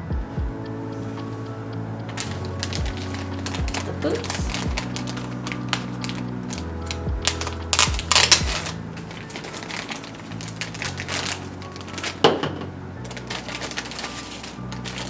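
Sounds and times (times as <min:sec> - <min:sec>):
background music with bass line: 0:00.0 - 0:15.0
packaging rustling and clicking: 0:02.1 - 0:15.0.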